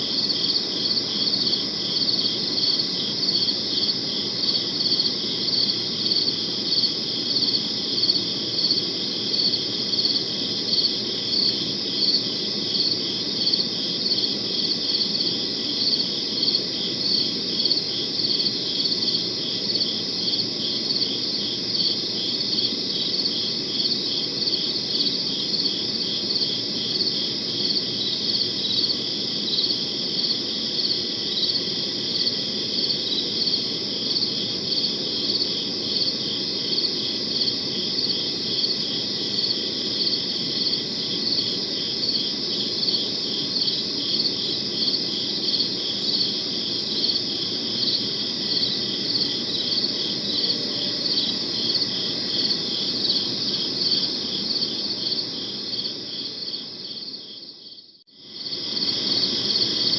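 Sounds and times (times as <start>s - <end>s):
crickets chirping: 0.0s - 59.9s
low steady background noise: 0.0s - 59.9s.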